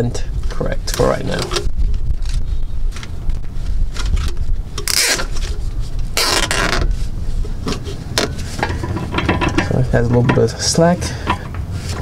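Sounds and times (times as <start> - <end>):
steady low rumble: 0.0 - 12.0
cable scraping: 0.9 - 12.0.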